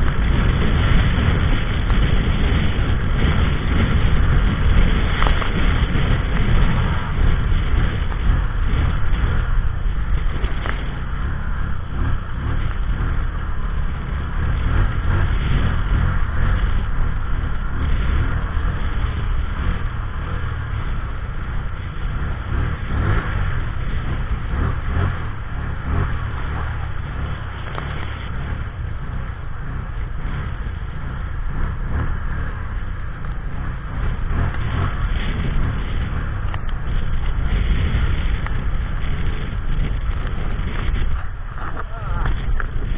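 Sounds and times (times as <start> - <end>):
blizzard wind on microphone: 0.0 - 42.9.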